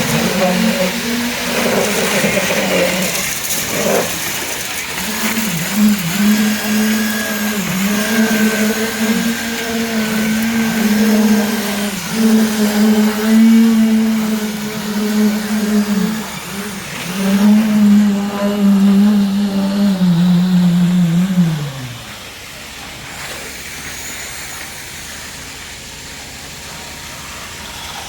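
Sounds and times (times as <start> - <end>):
motor humming: 0.0 - 22.9.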